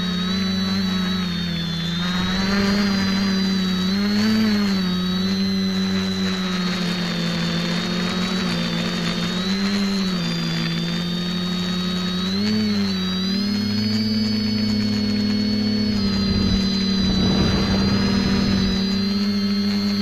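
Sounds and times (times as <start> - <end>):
high whine: 0.0 - 20.0
quadcopter motors buzzing: 0.0 - 20.0.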